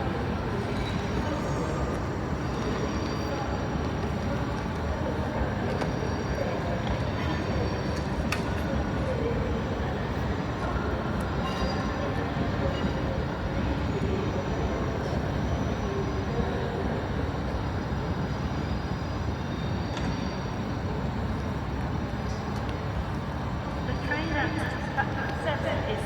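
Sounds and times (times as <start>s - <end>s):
train rumbling on rails: 0.0s - 26.0s.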